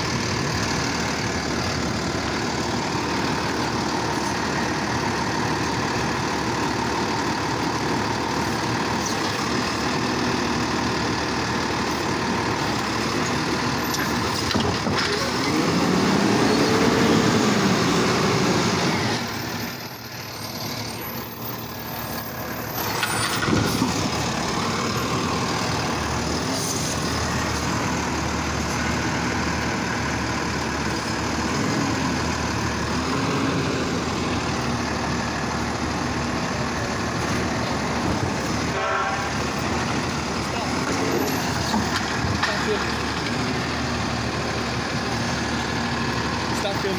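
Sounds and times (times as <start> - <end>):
garbage truck engine revving: 0.0 - 46.9.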